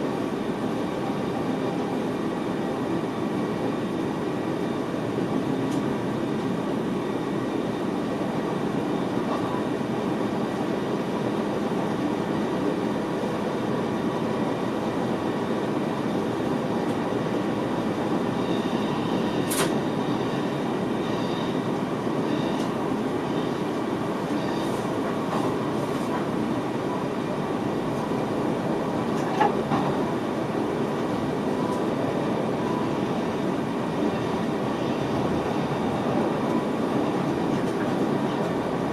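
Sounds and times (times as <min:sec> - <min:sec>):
train cab running rumble: 0:00.0 - 0:38.9.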